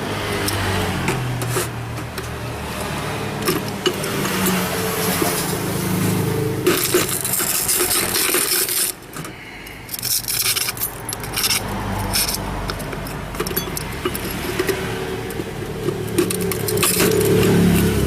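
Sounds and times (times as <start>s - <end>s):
scraping: 0.0s - 18.0s
small hard objects clicking: 0.3s - 18.0s.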